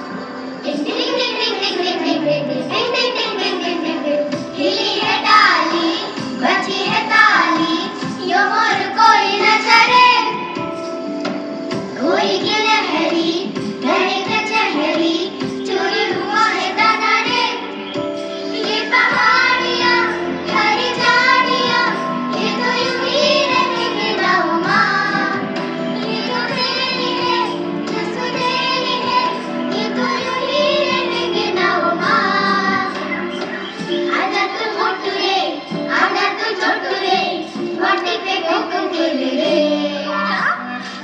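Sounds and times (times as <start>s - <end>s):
instrumental accompaniment: 0.0s - 41.0s
child singing: 0.6s - 10.5s, 12.0s - 17.6s, 18.5s - 40.8s.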